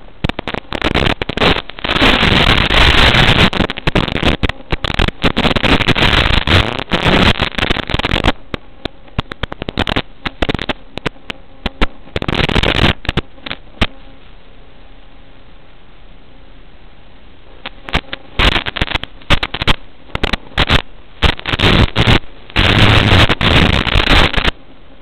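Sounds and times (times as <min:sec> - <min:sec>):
sharp static clicks: 0:00.0 - 0:15.8, 0:17.4 - 0:25.0
radio static hiss and crackle: 0:00.0 - 0:25.0.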